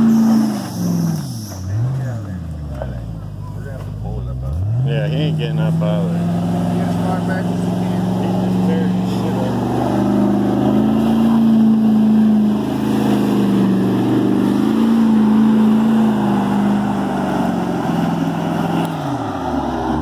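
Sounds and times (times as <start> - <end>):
engine revving hard: 0.0 - 2.3, 4.5 - 20.0.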